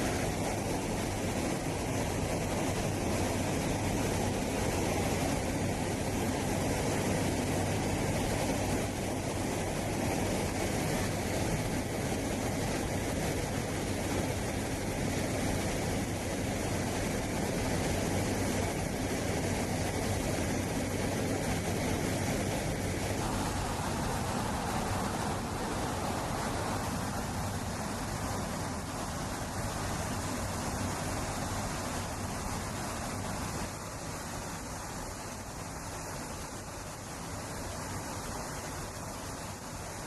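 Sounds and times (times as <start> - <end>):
aircraft engine hum: 0.0 - 40.0.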